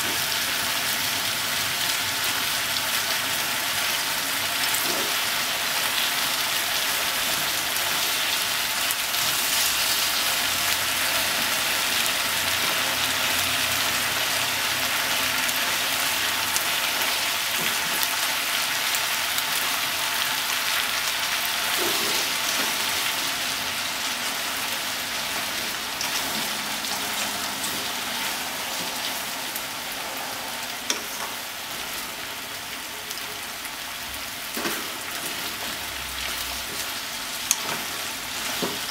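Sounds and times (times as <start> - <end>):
food sizzling in a pot: 0.0 - 38.9.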